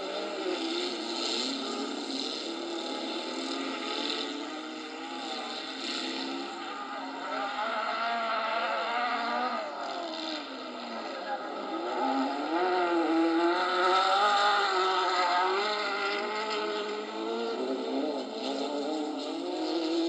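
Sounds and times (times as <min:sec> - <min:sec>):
race car engines running hard: 0:00.0 - 0:20.0.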